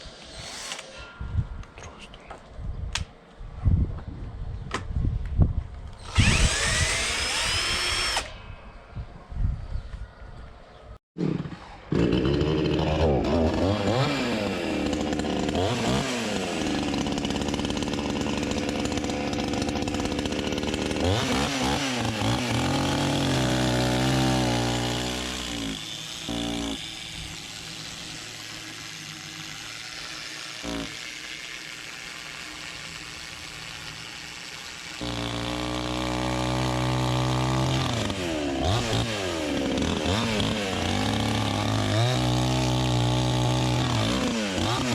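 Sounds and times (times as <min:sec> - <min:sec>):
woodworking machinery revving: 0:06.0 - 0:08.4, 0:11.2 - 0:44.9.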